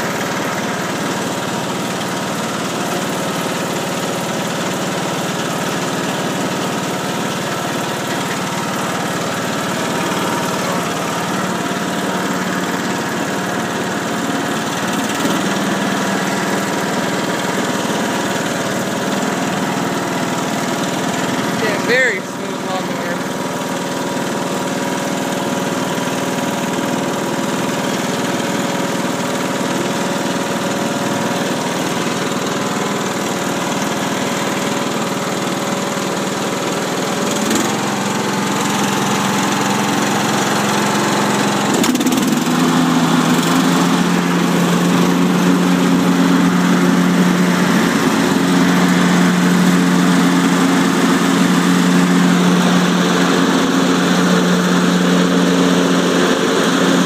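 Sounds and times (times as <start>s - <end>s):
lawn tractor engine running: 0.0s - 57.0s.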